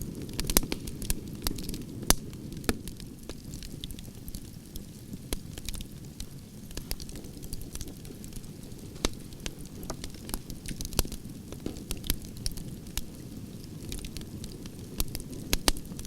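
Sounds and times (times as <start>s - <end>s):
campfire crackling and popping: 0.0s - 16.0s
low rumble of flame: 0.0s - 16.0s.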